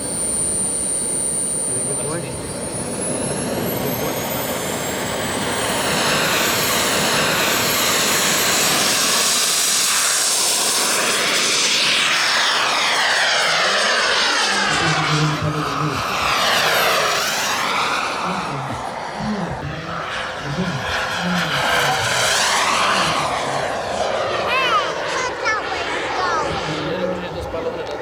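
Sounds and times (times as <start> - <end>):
model airplane engine whine: 0.0 - 28.0.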